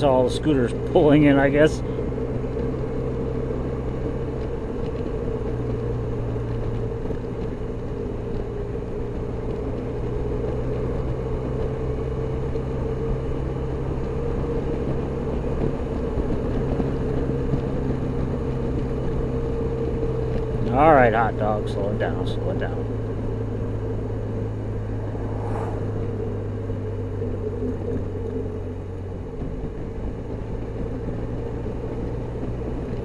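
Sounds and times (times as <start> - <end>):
motor scooter engine running: 0.0 - 33.0
wind and road noise: 0.0 - 33.0.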